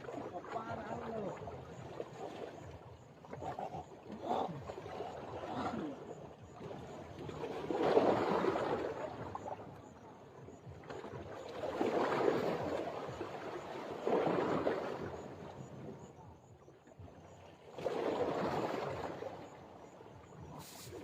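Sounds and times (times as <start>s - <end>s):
water washing in swells: 0.0s - 16.5s, 17.2s - 21.0s.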